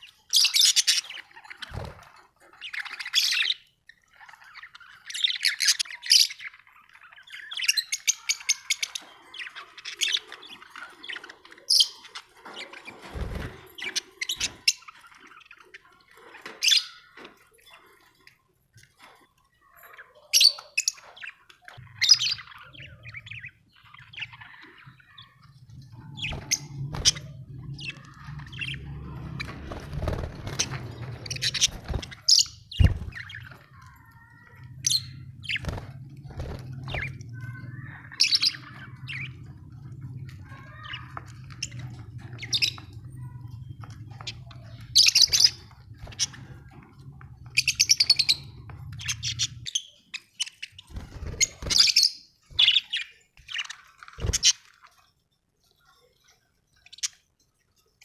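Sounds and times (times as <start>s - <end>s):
budgerigars chirping: 0.0s - 17.2s, 20.0s - 46.8s, 47.4s - 54.7s.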